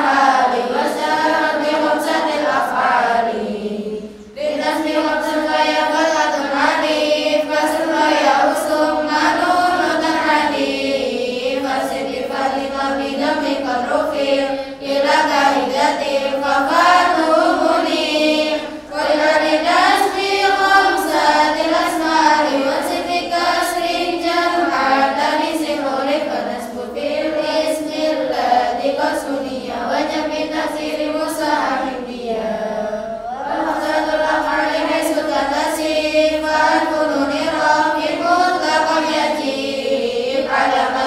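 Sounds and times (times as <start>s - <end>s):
girls chanting in unison: 0.0s - 41.0s.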